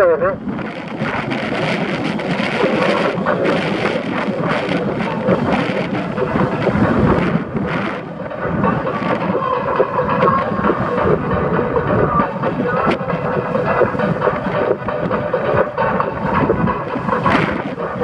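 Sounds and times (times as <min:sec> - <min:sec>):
car road noise: 0:00.0 - 0:18.0
wind buffeting microphone: 0:00.0 - 0:18.0.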